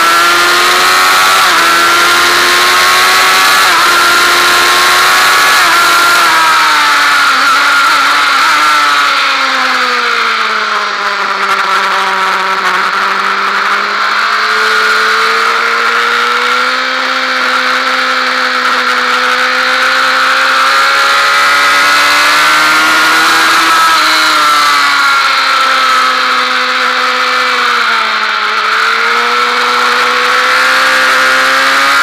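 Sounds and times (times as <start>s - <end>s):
motorcycle engine: 0.0s - 32.0s.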